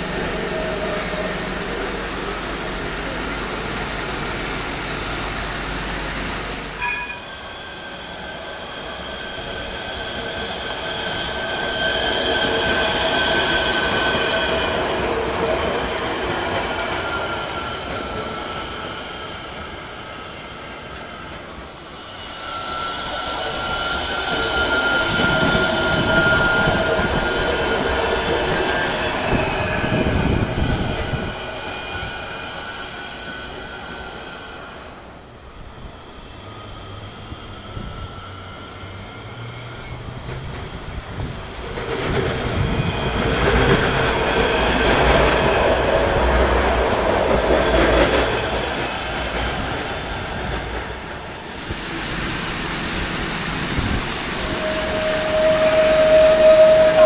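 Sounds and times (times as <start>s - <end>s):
tram wheels rushing on track: 0.0s - 57.0s.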